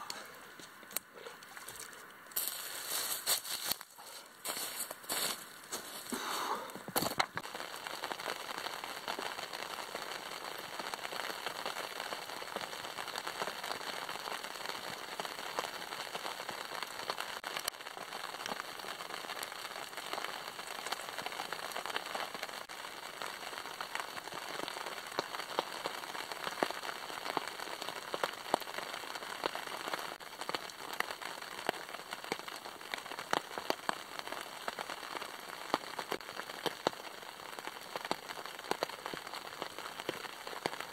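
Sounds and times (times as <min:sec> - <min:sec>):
rain pattering on a tarp: 0:00.0 - 0:40.9.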